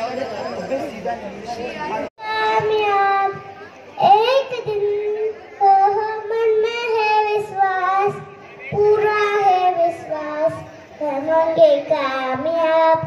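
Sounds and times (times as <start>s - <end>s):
girl singing into a microphone: 2.2s - 13.0s.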